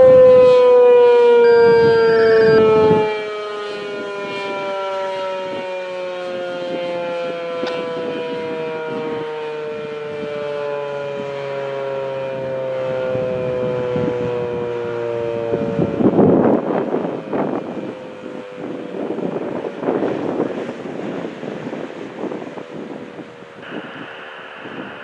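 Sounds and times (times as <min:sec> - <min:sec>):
rotating warning siren winding down: 0:00.0 - 0:25.0.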